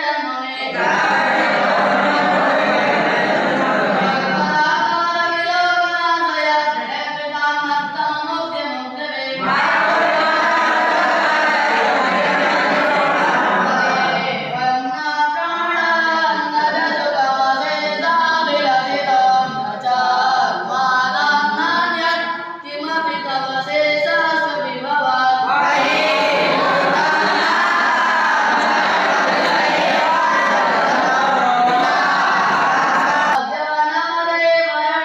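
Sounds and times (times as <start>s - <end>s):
boys singing a hymn in unison: 0.0s - 35.0s.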